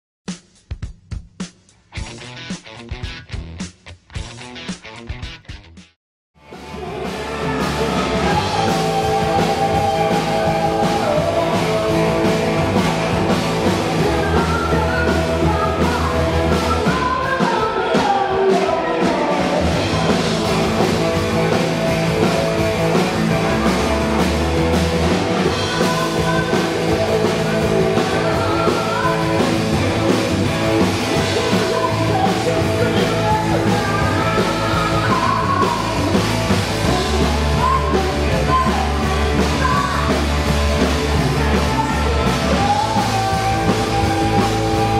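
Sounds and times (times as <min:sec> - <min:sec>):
drum kit beat: 0:00.2 - 0:44.9
bass guitar: 0:01.8 - 0:44.9
distorted electric guitar: 0:01.9 - 0:44.9.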